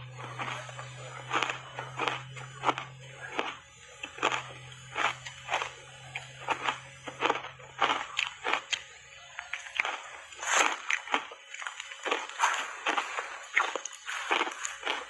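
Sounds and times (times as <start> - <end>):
ice crunched and chewed: 0.0 - 15.0.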